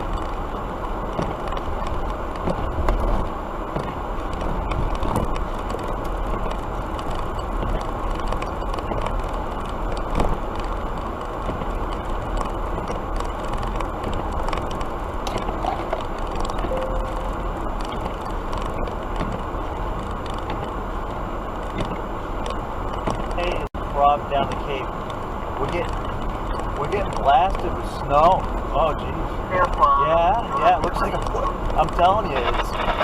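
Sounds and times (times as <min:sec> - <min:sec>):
car road and engine noise: 0:00.0 - 0:33.0.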